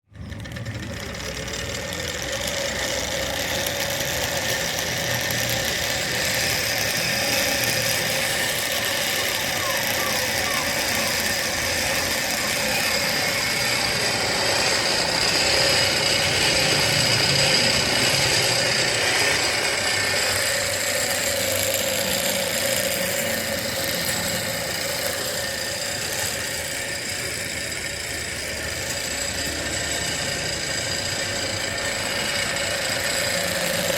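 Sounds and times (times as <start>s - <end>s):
pedal-driven mixer grinder whine: 0.0s - 33.9s.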